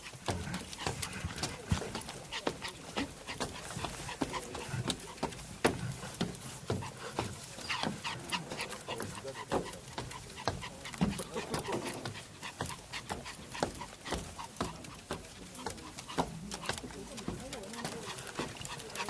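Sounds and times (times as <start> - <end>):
small dog panting: 0.0 - 19.0.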